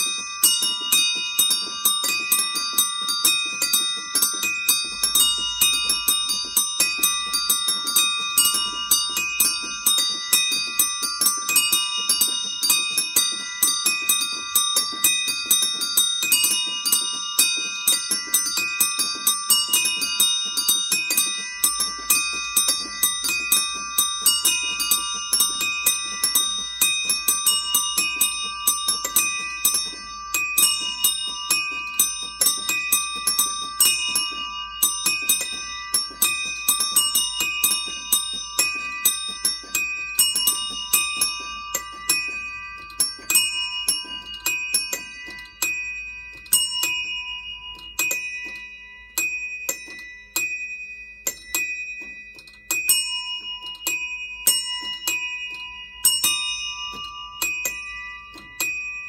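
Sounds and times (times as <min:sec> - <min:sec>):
small tuned bells ringing: 0:00.0 - 0:59.0.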